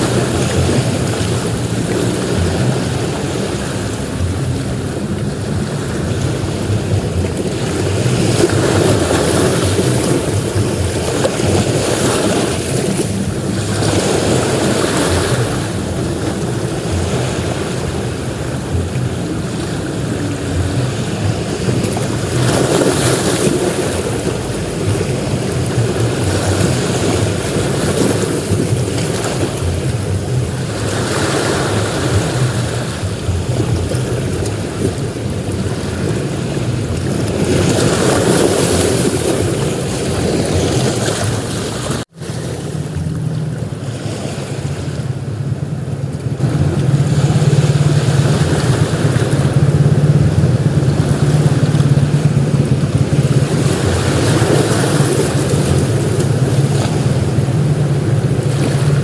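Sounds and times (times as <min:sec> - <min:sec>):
ocean surf breaking: 0:00.0 - 0:59.0
wind rumbling on microphone: 0:00.0 - 0:59.0.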